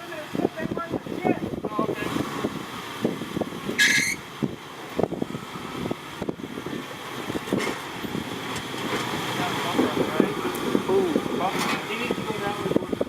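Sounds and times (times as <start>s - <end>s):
off-road vehicle engine working unevenly: 0.0s - 13.0s.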